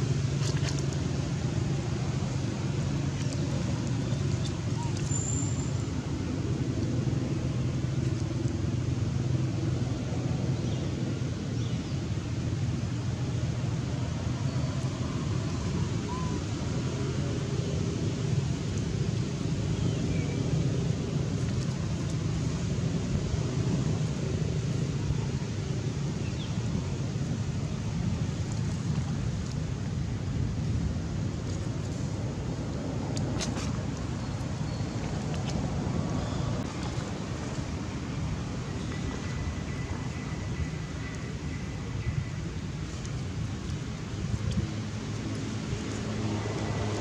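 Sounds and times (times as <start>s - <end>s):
low outdoor rumble: 0.0s - 47.0s.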